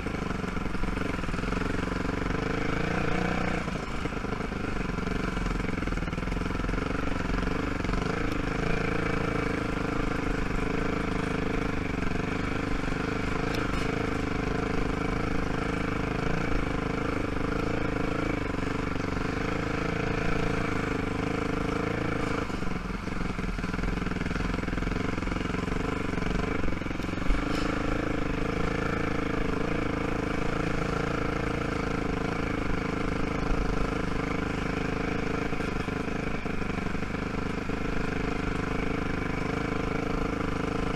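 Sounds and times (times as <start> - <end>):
quad engine running: 0.0 - 40.9.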